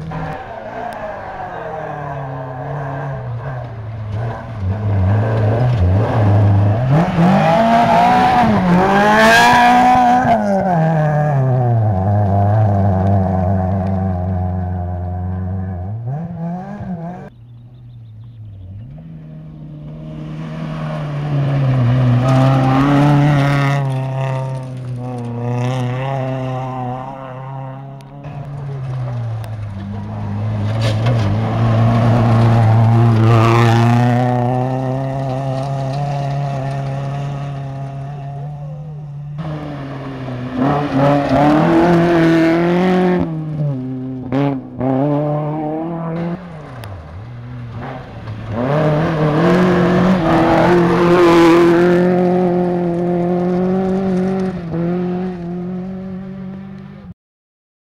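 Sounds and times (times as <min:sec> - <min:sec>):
rally car engines revving: 0:00.0 - 0:57.1.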